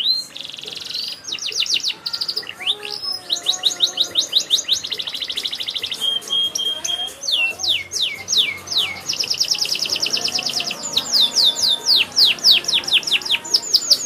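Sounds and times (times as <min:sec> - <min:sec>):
canary singing: 0:00.0 - 0:14.0.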